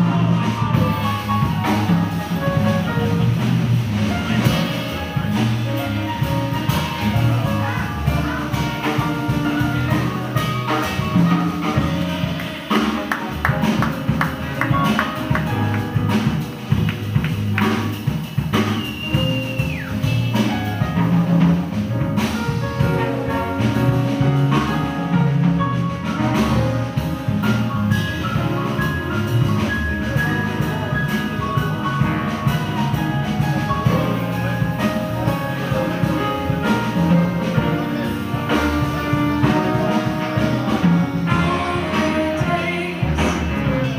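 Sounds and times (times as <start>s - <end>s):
bass clarinet: 0.0s - 43.9s
drums: 0.0s - 43.9s
live jazz band playing: 0.0s - 43.9s
piano: 0.0s - 43.9s
trombone: 0.0s - 43.9s.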